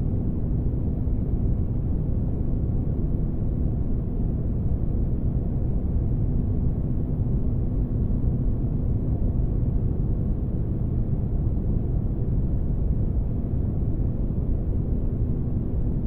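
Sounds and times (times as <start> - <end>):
faint constant hum: 0.0 - 16.0.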